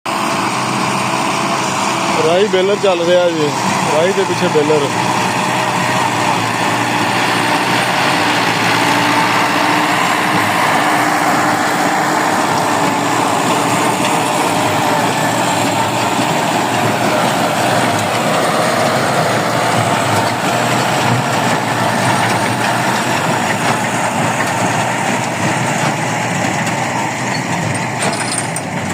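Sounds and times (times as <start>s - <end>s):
baler working: 0.1s - 28.9s
tractor engine running: 0.1s - 28.9s.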